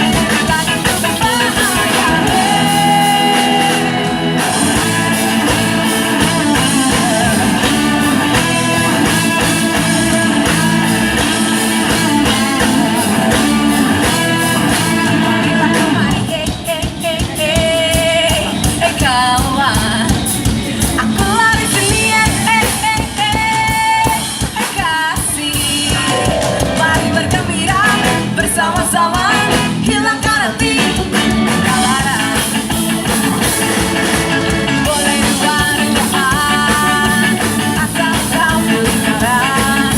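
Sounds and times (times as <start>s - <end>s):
lead singer singing: 0.0s - 39.9s
upbeat ska band music: 0.0s - 39.9s.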